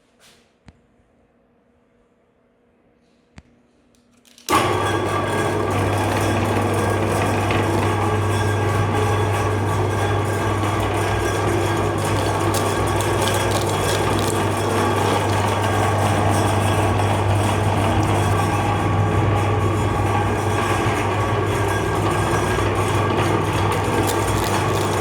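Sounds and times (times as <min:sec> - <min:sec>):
electric meat grinder running: 0:04.5 - 0:25.0.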